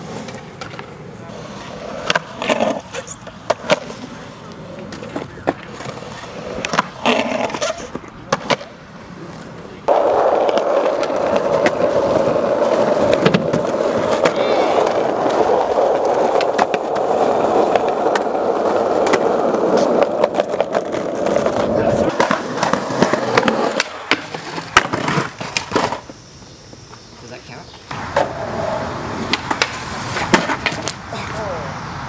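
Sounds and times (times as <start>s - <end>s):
skateboard clacks and knocks: 0.0s - 8.8s, 9.9s - 26.1s, 27.9s - 31.0s
skateboard clicks: 0.0s - 26.2s, 27.7s - 31.0s
skateboard wheels rolling on asphalt: 0.0s - 32.0s.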